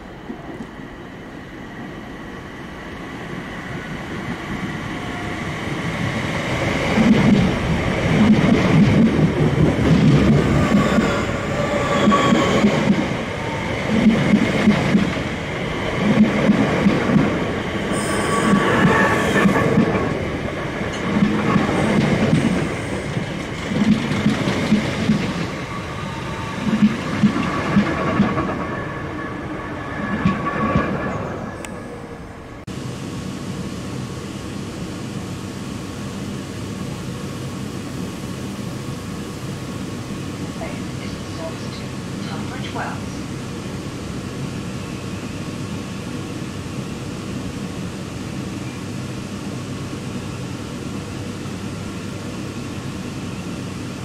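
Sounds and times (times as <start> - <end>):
electric train passing: 0.0 - 54.0
steady train whine: 0.0 - 54.0.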